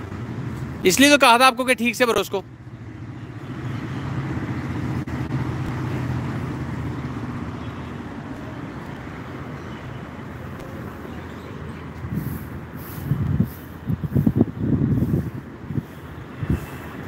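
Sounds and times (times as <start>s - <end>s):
engine humming: 2.2s - 17.0s.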